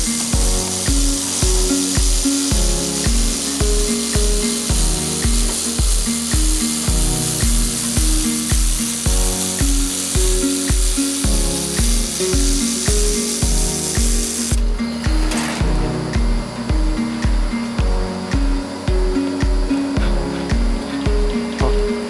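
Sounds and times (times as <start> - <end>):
electronic music with kick drum: 0.0 - 22.0
steady high hiss: 0.0 - 22.0.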